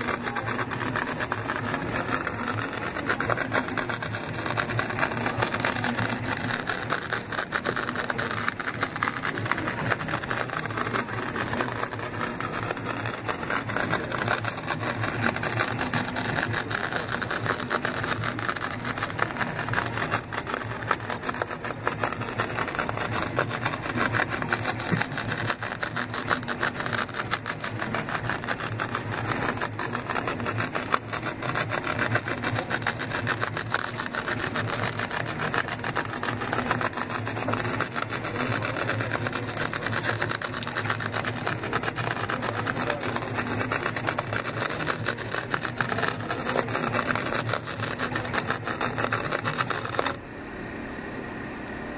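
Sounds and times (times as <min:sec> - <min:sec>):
stepper motors whirring: 0:00.0 - 0:50.4.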